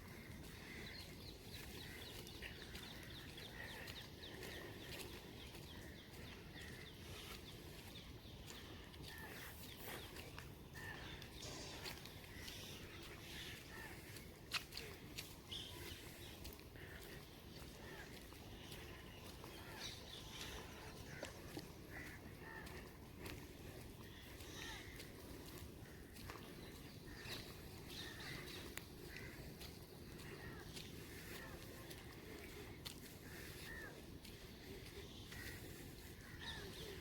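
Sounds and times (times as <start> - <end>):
birds calling: 0.0 - 37.0
light rain pattering: 0.1 - 37.0.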